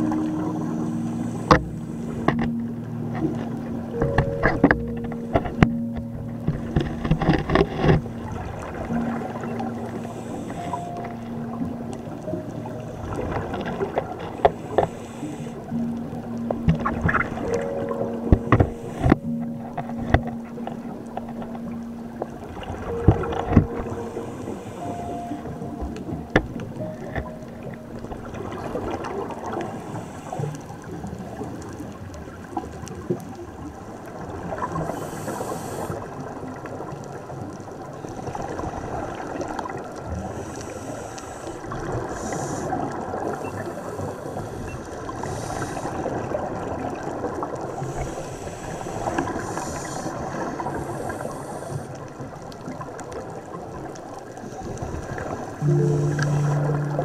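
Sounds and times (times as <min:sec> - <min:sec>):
underwater crackling and gurgling: 0:00.0 - 0:57.0.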